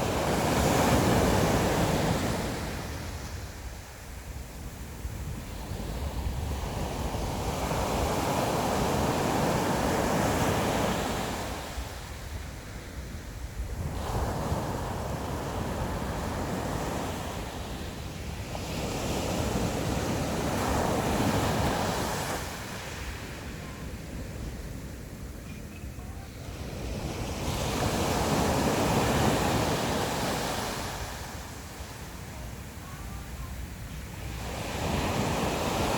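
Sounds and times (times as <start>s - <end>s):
sea waves breaking on shore: 0.0s - 35.9s
wind rumbling on microphone: 0.0s - 35.9s.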